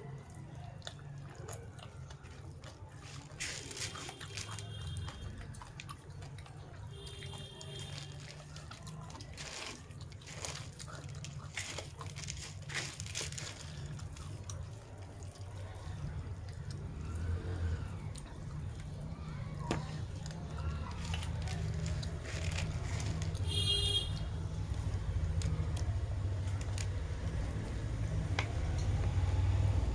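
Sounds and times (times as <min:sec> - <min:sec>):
wet chewing and mouth clicks: 0:00.0 - 0:29.9.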